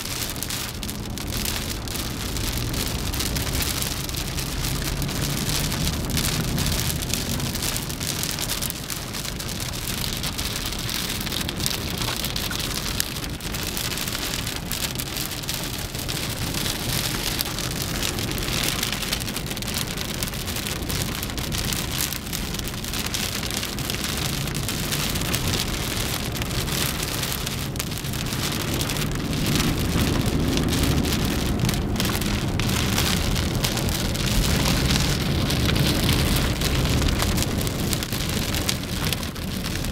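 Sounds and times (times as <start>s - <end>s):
heavy rain falling: 0.0s - 39.9s
low rumble: 0.0s - 39.9s
raindrops pattering: 0.0s - 39.9s.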